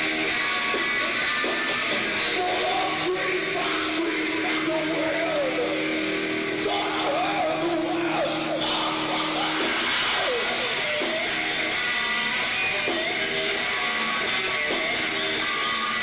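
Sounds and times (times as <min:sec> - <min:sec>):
wavering sliding guitar notes: 0:00.0 - 0:16.0.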